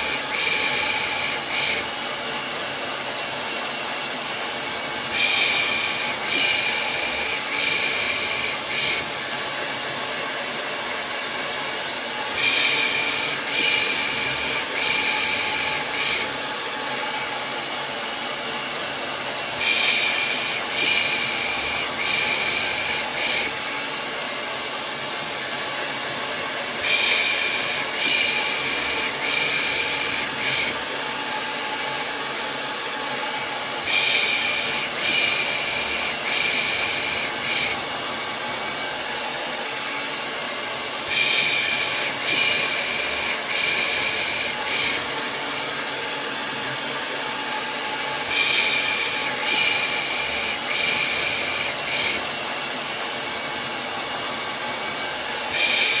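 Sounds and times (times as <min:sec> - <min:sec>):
hair dryer white noise: 0:00.0 - 0:56.0.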